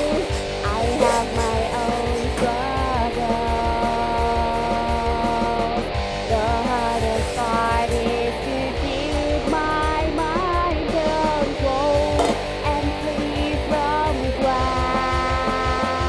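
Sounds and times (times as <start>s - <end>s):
rock song with singing: 0.0s - 16.0s.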